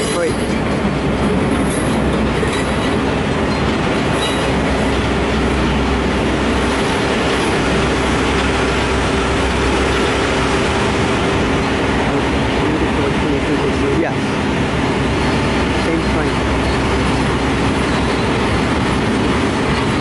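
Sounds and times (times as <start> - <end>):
thin steady whine: 0.0 - 20.0
train wheels rumbling on rails: 0.0 - 20.0.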